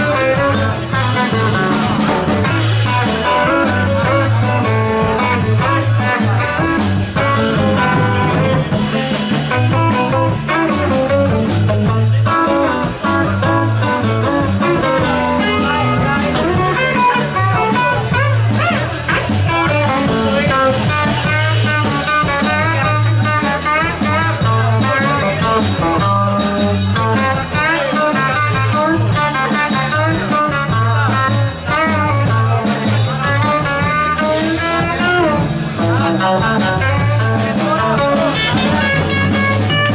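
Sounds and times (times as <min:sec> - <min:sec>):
drum kit: 0:00.0 - 0:39.9
electric bass line: 0:00.0 - 0:39.9
electric guitar with bent notes: 0:00.0 - 0:39.9.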